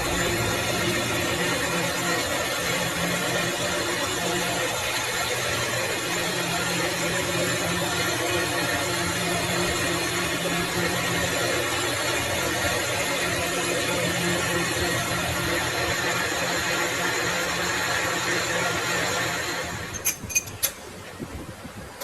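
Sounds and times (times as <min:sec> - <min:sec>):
metalworking machine humming: 0:00.0 - 0:20.8.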